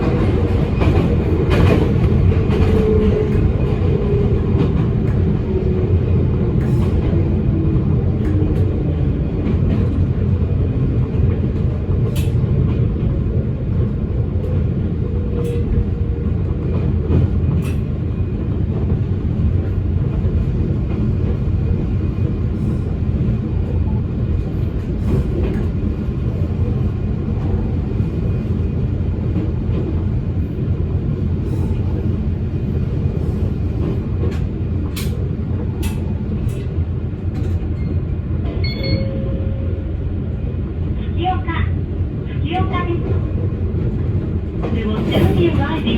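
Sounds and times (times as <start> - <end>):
train rumble: 0.0 - 45.9.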